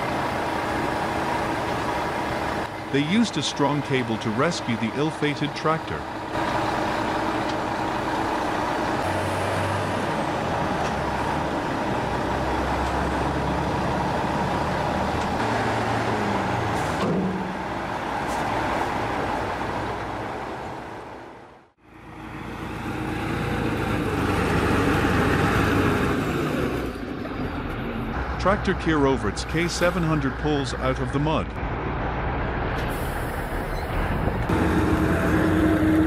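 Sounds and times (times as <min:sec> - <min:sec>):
heavy truck engine running: 0:00.0 - 0:36.0
tractor diesel engine: 0:00.0 - 0:36.0.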